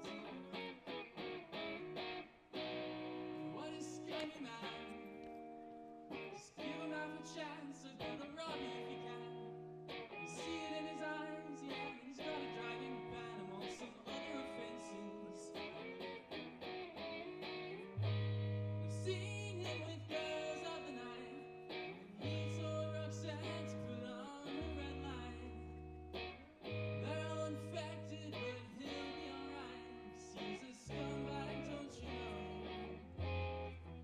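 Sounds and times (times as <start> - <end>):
guitar chords strummed: 0.0 - 34.0.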